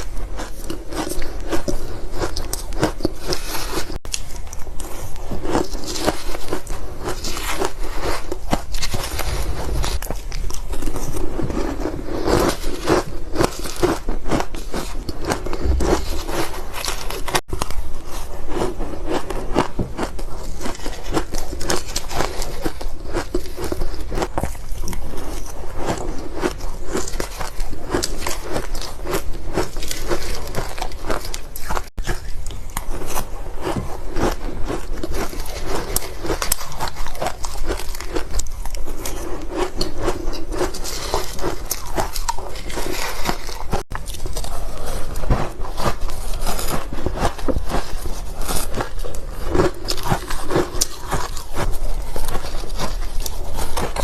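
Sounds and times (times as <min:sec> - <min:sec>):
teeth crunching ice: 0:00.0 - 0:54.0.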